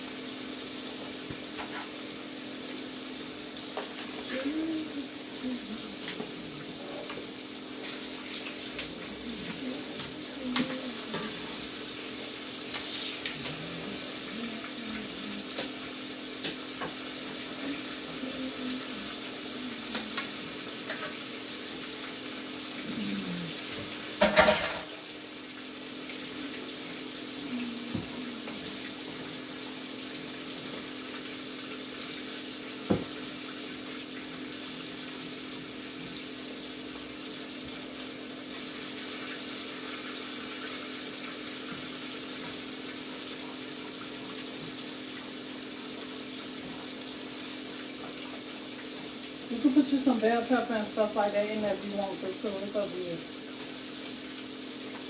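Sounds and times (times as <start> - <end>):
gravy hissing in skillet: 0.0 - 55.0.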